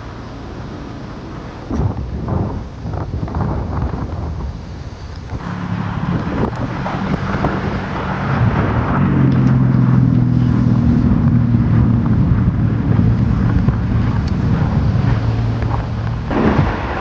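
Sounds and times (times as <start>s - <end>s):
vehicle engine humming: 0.0s - 17.0s
wind on microphone: 0.0s - 17.0s.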